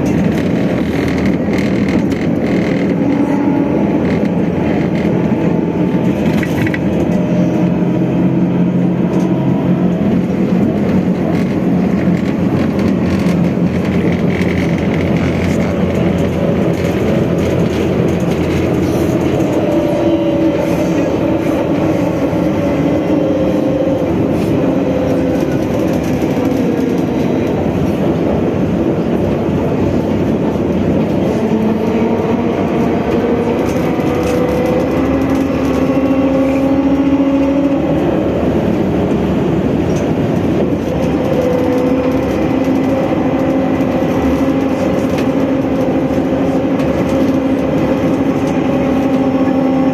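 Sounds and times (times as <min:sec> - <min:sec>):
electric traction motor whine: 0:00.0 - 0:49.9
road and body rumble: 0:00.0 - 0:49.9.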